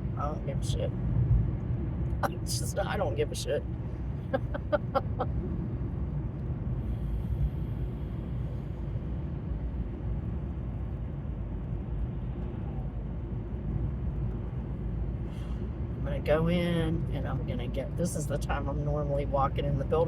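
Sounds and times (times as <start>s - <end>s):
car rumbling: 0.0s - 20.0s.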